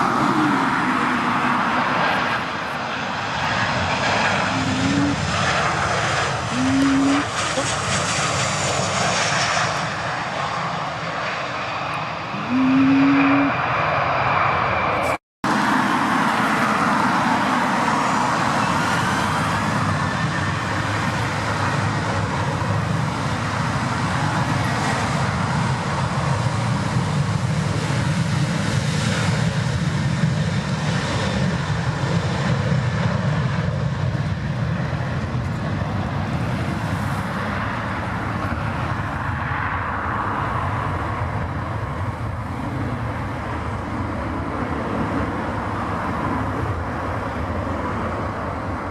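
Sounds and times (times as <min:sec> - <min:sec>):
jet engines at take-off: 0:00.0 - 0:48.9.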